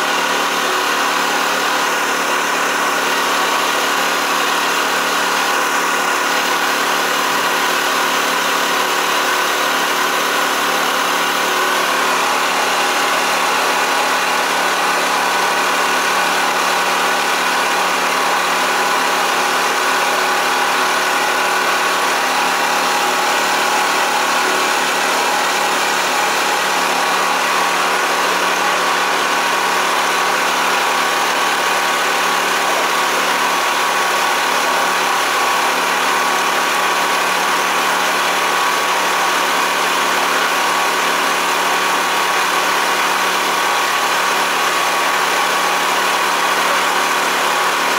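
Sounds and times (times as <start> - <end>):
motor boat engine droning: 0.0 - 47.9.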